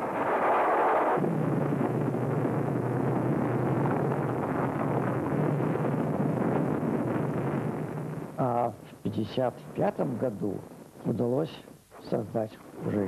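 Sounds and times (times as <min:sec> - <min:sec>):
explosion rumbling roar: 0:00.0 - 0:10.7
constant low hum: 0:00.0 - 0:13.0.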